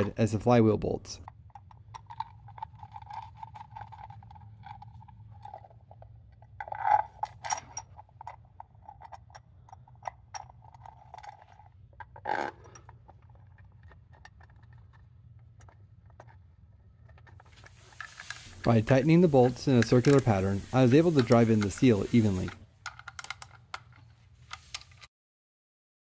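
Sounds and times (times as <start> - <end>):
metal parts clinking and scraping: 1.4 - 15.0, 15.6 - 25.1.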